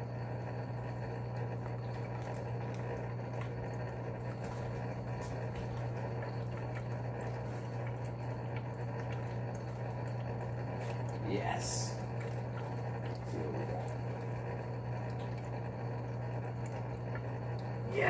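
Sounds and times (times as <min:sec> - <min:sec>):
low motor hum: 0:00.0 - 0:18.0
water bubbling: 0:00.0 - 0:18.0
water trickling: 0:00.0 - 0:18.0.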